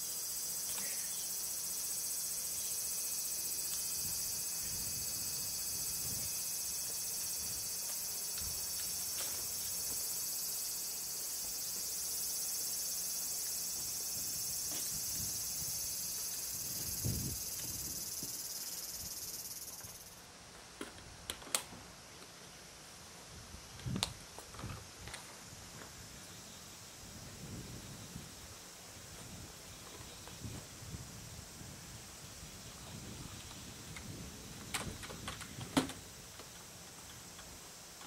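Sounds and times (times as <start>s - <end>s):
insects chirring: 0.0s - 20.3s, 24.2s - 38.0s.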